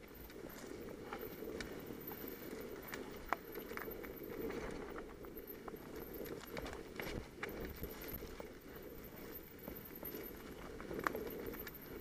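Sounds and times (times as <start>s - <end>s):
bike clicks and rattles: 0.0s - 12.0s
bike tyres rumbling on dirt: 0.0s - 12.0s.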